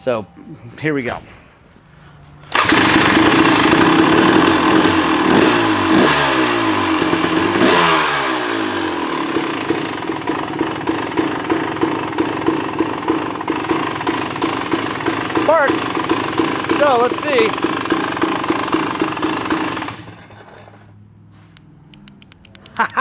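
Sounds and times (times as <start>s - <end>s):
dirt bike engine starting and revving: 2.4s - 21.0s.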